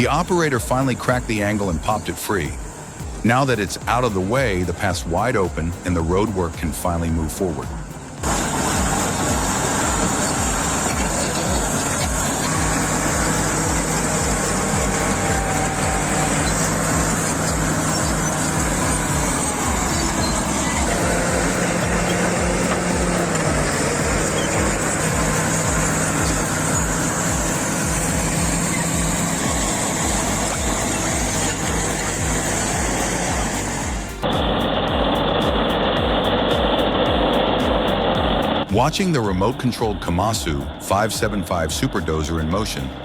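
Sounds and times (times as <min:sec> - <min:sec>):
bulldozer diesel engine running: 0:00.0 - 0:43.0.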